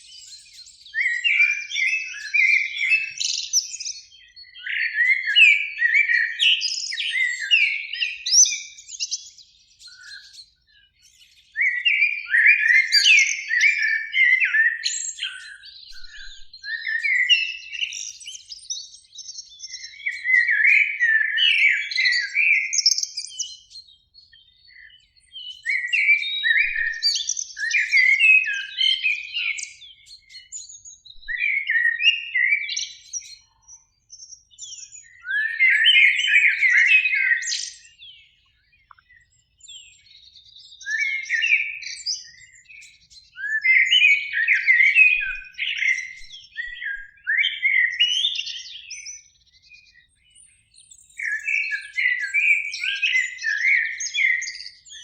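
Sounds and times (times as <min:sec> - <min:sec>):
blackbird singing: 0:00.0 - 0:55.0.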